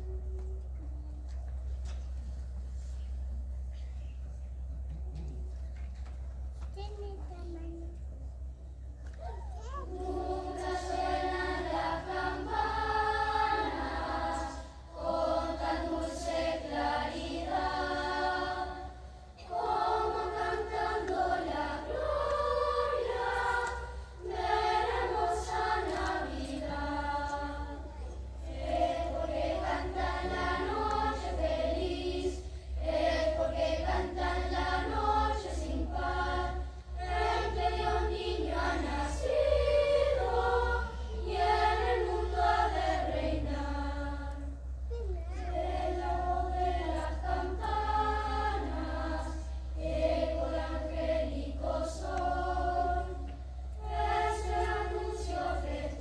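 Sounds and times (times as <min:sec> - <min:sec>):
children's choir singing: 0:09.9 - 0:44.7, 0:45.3 - 0:56.0.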